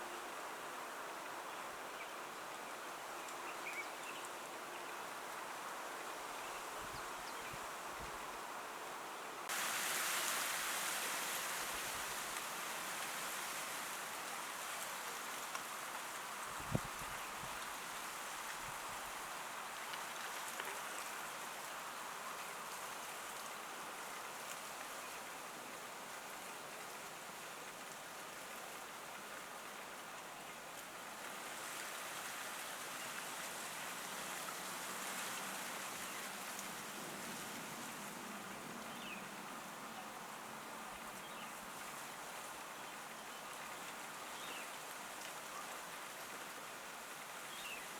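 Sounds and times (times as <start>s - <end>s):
rain hiss: 0.0s - 47.9s.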